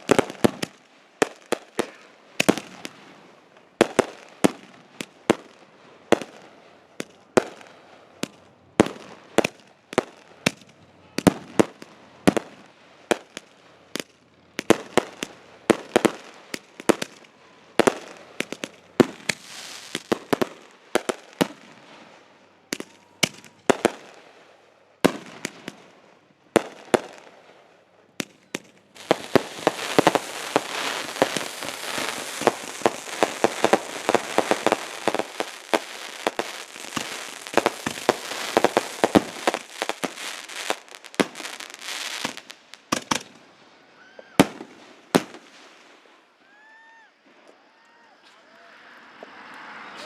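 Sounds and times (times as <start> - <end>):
fireworks bangs and crackle: 0.0 - 47.6.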